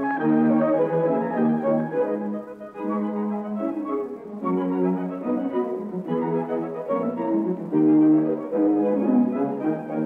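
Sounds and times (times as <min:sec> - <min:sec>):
orchestral strings melody: 0:00.0 - 0:10.0.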